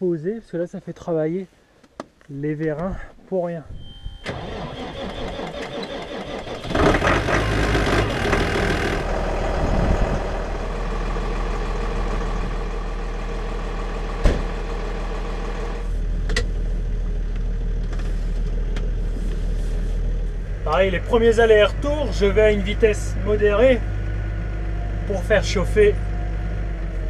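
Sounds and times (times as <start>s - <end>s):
tractor diesel engine idling: 4.3s - 27.0s.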